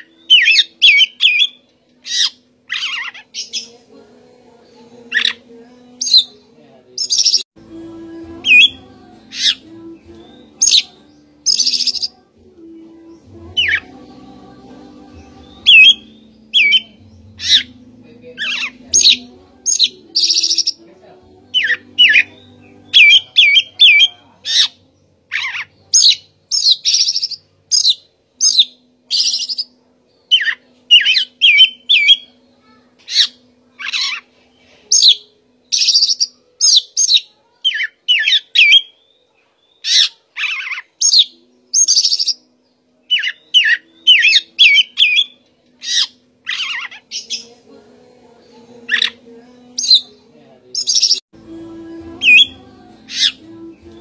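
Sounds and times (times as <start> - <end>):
magpie-robin singing: 0.0 - 3.8, 5.0 - 6.4, 7.0 - 7.4, 8.4 - 12.3, 13.3 - 14.0, 15.1 - 32.4, 33.0 - 34.3, 34.9 - 47.6, 48.4 - 51.2, 52.2 - 54.0.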